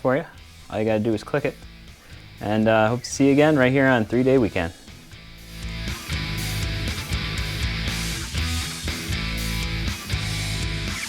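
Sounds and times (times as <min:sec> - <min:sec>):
rock music with distorted guitar: 0:00.4 - 0:02.7, 0:04.1 - 0:11.0.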